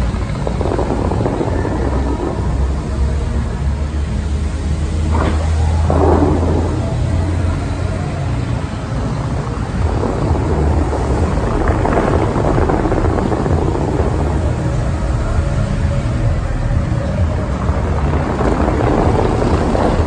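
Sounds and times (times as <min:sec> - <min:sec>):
deep rumble: 0:00.0 - 0:20.0
water jets rushing and splashing: 0:00.0 - 0:20.0.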